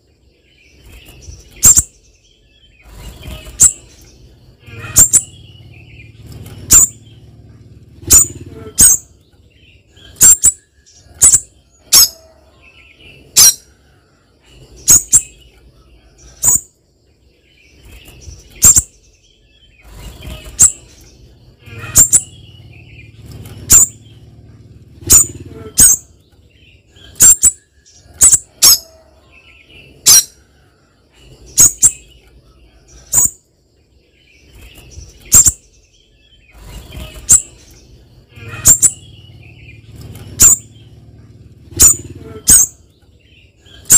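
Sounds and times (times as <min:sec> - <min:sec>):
bird high sharp calls: 0:00.7 - 0:16.8, 0:17.7 - 0:33.5, 0:34.3 - 0:43.9.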